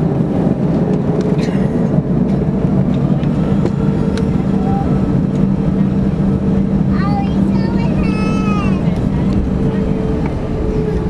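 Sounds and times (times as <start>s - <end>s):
airplane engines droning in cabin: 0.0s - 11.0s.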